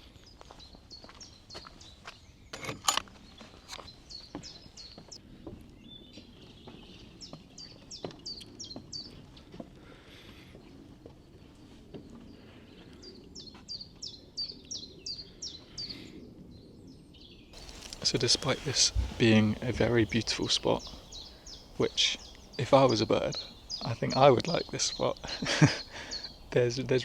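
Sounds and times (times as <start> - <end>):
songbird singing: 0.0 - 9.5, 10.6 - 27.0.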